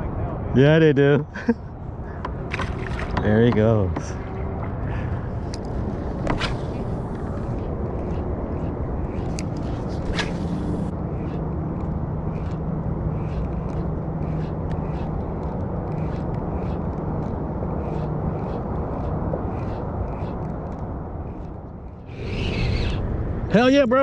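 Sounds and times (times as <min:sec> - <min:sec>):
rumbling background noise: 0:00.0 - 0:24.0.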